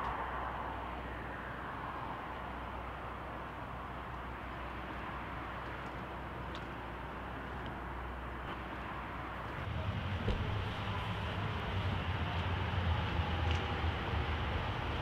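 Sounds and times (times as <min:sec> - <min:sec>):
vehicle rumble and hiss: 0:00.0 - 0:15.0.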